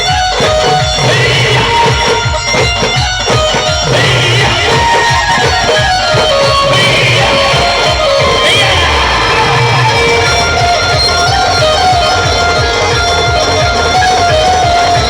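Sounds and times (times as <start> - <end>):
drum beat: 0.0 - 15.0
electric guitar melody: 0.0 - 15.0.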